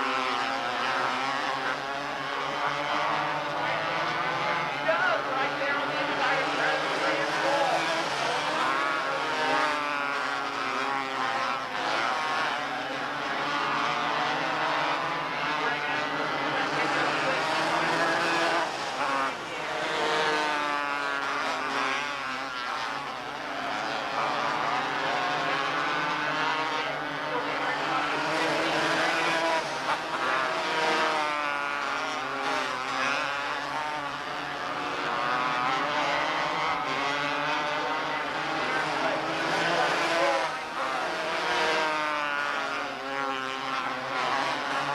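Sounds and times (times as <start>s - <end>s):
small race car engines revving: 0.0s - 44.9s.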